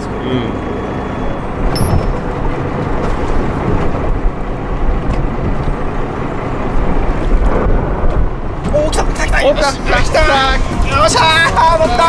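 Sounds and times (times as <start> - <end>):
wind rumbling on microphone: 1.4 - 12.0.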